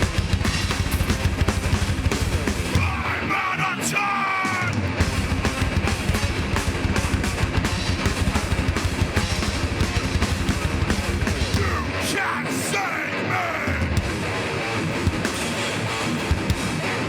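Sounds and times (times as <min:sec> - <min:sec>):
fast pounding drums: 0:00.0 - 0:12.7, 0:13.7 - 0:17.0
distorted electric guitars: 0:00.0 - 0:17.0.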